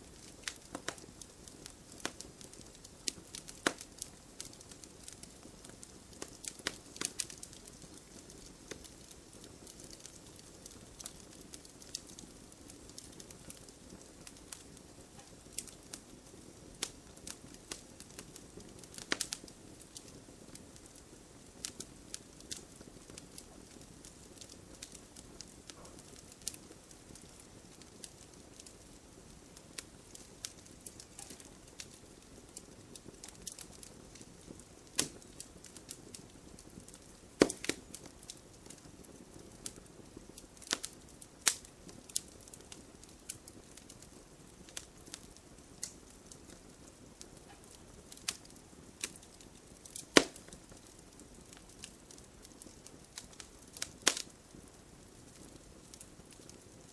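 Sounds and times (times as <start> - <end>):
campfire crackling: 0.0 - 56.9
sharp snaps from fire: 0.0 - 56.9.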